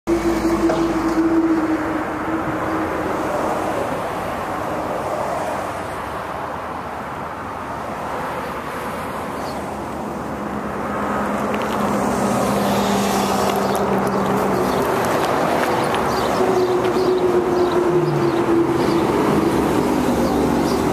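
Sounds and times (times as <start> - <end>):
vehicles passing: 0.1 - 20.9.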